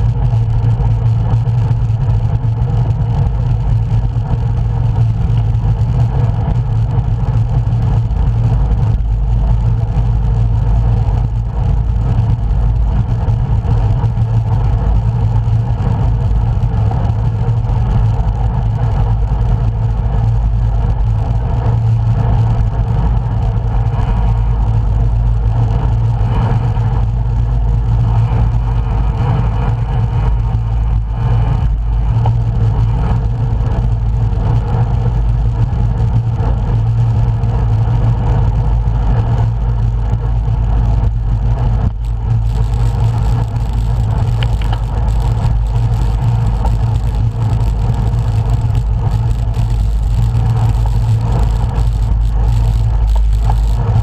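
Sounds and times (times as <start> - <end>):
wind and road noise rumble: 0.0 - 54.0.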